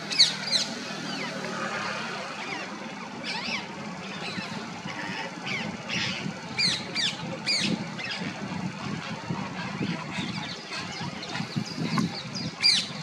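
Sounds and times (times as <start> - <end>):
parakeets screeching: 0.0 - 13.0
steady low rumble: 1.8 - 13.0.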